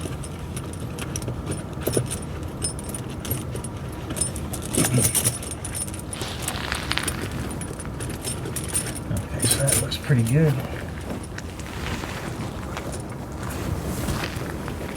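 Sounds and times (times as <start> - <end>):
tire chain links rattling: 0.5 - 13.5.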